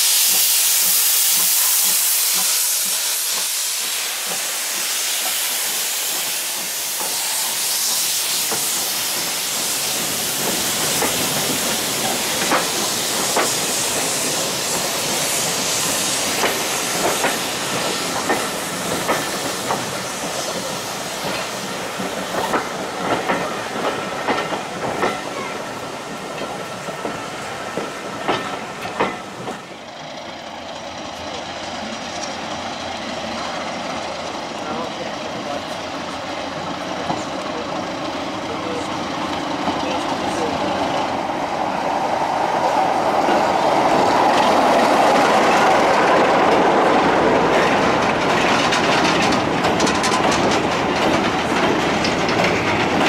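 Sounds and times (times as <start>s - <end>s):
steam hissing: 0.0s - 53.0s
train wheels clicking on rail joints: 0.0s - 53.0s.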